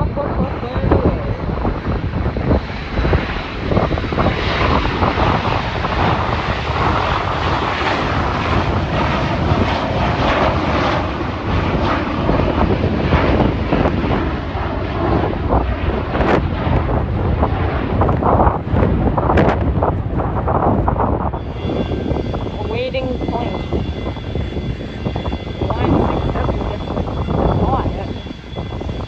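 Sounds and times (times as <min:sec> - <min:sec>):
jet engines roaring: 0:00.0 - 0:29.0
wind buffeting microphone: 0:00.0 - 0:29.0.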